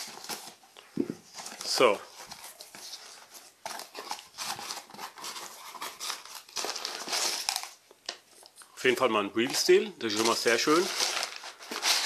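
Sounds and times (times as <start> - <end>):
packing paper rustling: 0.0 - 8.6, 9.4 - 12.0.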